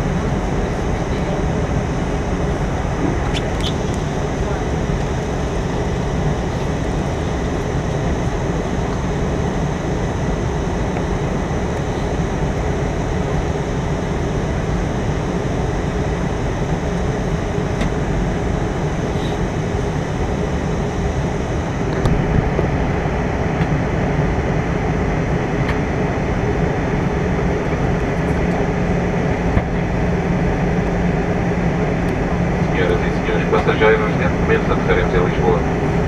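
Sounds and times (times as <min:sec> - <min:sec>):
jet airliner cabin noise: 0:00.0 - 0:36.0
low steady hum: 0:00.0 - 0:36.0.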